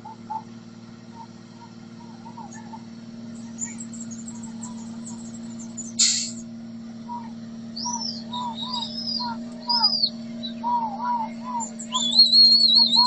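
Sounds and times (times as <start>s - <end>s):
birds chirping and warbling: 0.0s - 13.0s
steady low hum: 0.0s - 13.0s.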